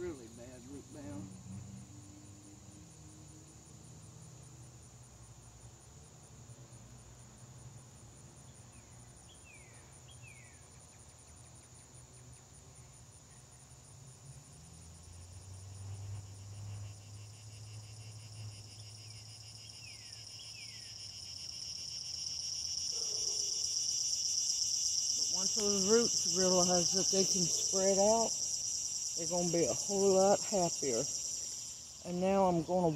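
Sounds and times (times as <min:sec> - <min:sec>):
insects chorus: 0:00.0 - 0:32.9.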